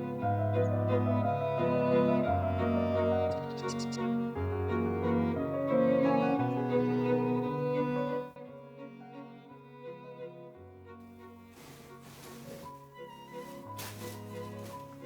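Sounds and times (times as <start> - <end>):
bowed strings: 0.0 - 15.0.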